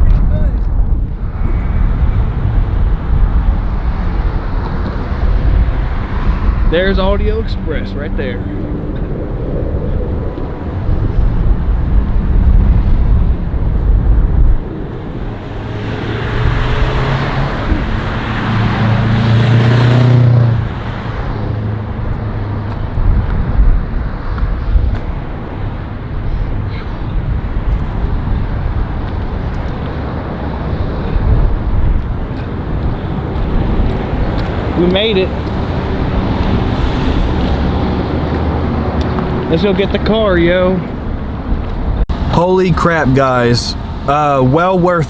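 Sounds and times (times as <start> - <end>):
road traffic passing: 0.0 - 45.0
wind rumble on microphone: 0.0 - 45.0
vehicle passing close: 0.7 - 45.0.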